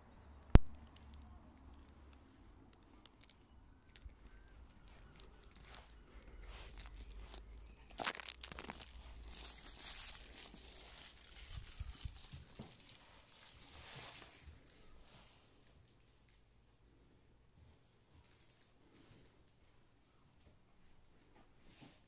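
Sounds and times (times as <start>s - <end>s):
rustling and crinkling: 0.4s - 16.5s, 17.6s - 22.0s.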